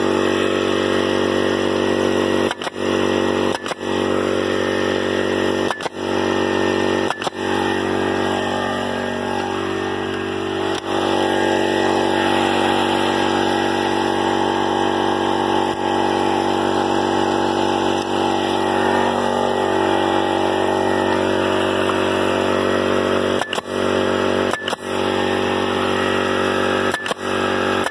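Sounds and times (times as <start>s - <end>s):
air compressor droning: 0.0s - 27.9s
pneumatic nailer shots: 0.0s - 27.9s.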